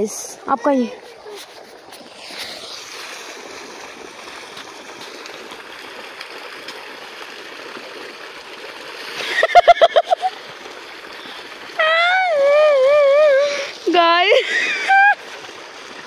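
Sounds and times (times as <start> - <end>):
water gushing from pipe: 0.0 - 16.0.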